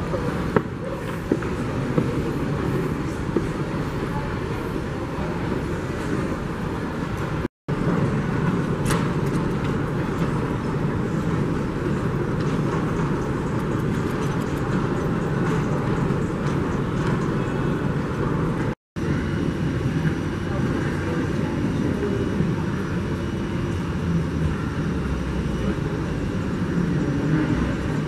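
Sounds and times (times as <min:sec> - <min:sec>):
rumbling airport concourse ambience: 0:00.0 - 0:28.0.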